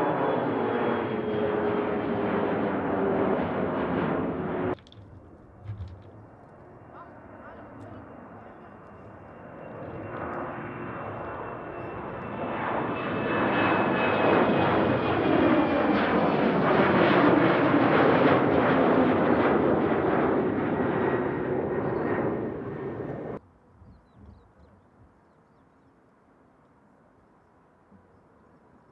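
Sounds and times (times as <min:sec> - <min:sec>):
jet engines roaring with whine: 0:00.0 - 0:23.4.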